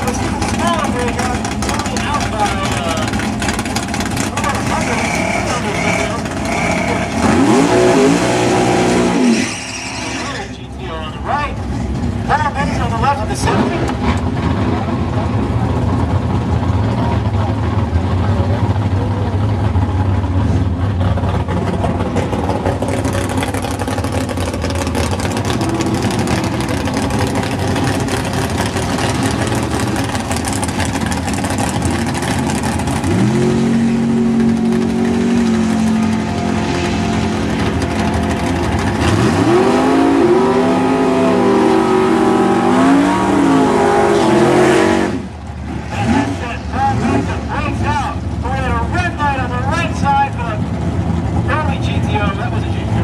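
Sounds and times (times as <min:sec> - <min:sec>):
drag car engine revving: 0:00.0 - 0:53.0.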